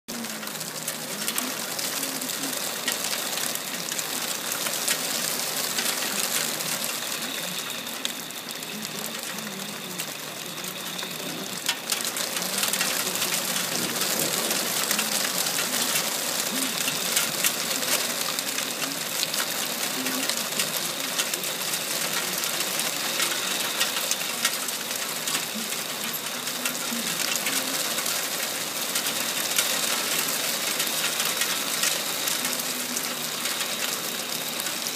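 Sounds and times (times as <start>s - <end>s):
hail and rain pelting wooden deck: 0.1s - 34.9s.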